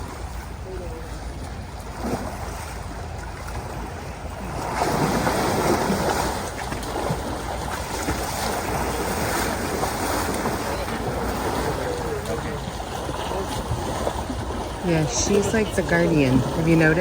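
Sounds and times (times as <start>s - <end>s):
water rushing and splashing: 0.0s - 17.0s.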